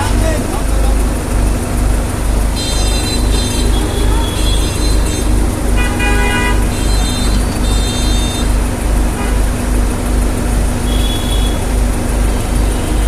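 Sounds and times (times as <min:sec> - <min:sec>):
excavator diesel engine throbbing: 0:00.0 - 0:13.0.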